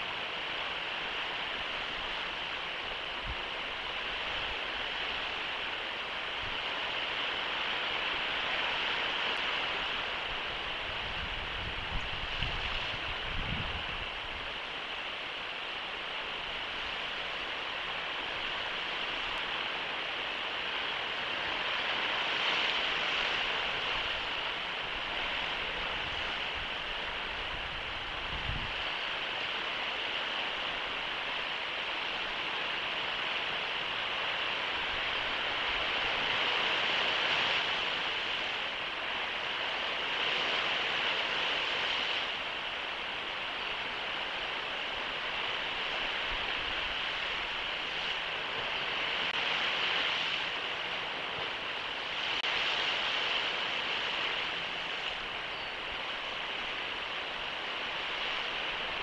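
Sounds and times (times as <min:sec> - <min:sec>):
surf rushing: 0:00.0 - 0:59.0
wind: 0:00.0 - 0:59.0.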